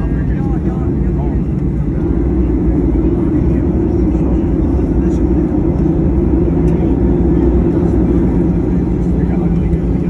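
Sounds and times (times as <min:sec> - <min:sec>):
jet engines humming: 0:00.0 - 0:10.0
low cabin rumble: 0:00.0 - 0:10.0.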